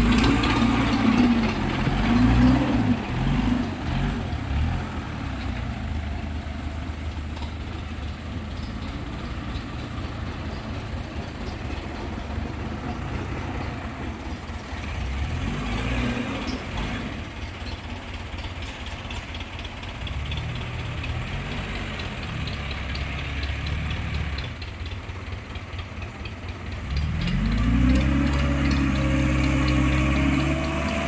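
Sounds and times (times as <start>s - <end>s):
truck engine revving: 0.0s - 17.7s, 19.8s - 25.3s, 26.6s - 31.0s.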